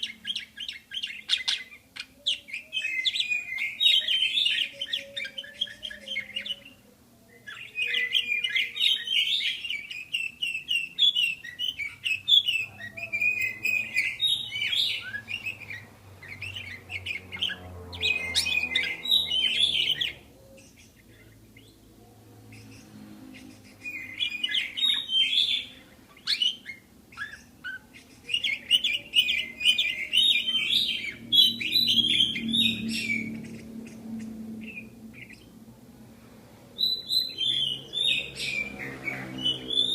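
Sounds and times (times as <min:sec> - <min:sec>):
budgerigars chirping and warbling: 0:00.0 - 0:35.6, 0:36.8 - 0:39.9.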